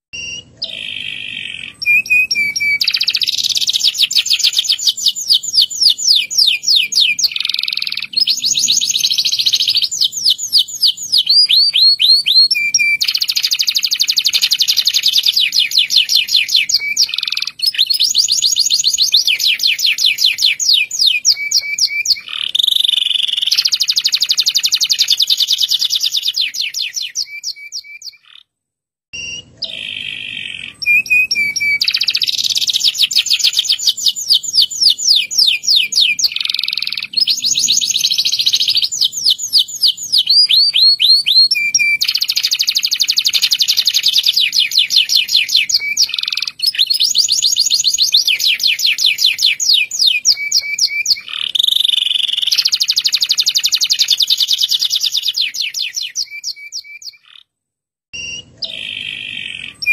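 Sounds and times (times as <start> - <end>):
canary singing trills: 0.1 - 28.5, 29.2 - 57.5, 58.2 - 59.9.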